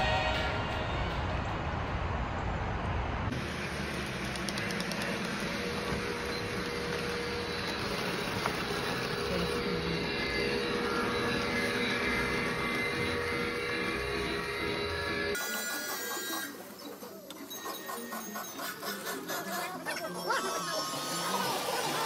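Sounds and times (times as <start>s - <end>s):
model train motors whirring: 3.4s - 22.0s.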